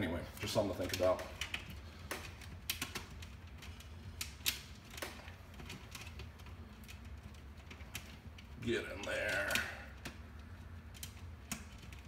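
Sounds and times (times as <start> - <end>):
wiring clicking and tapping: 0.0 - 12.0.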